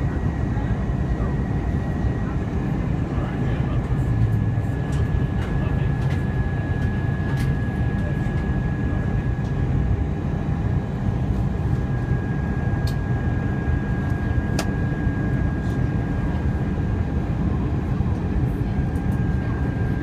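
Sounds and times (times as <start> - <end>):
aircraft engine rumble: 0.0 - 20.0.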